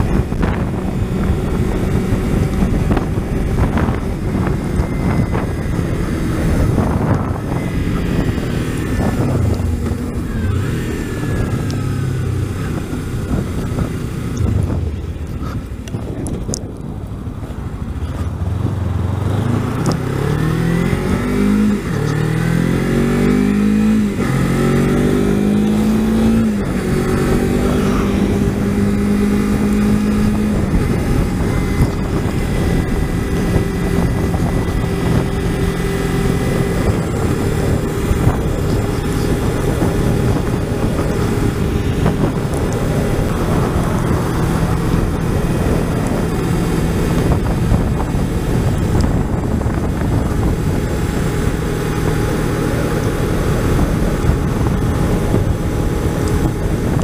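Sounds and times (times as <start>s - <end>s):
motorcycle engine accelerating: 0.0s - 57.0s
wind noise on microphone: 0.0s - 57.0s.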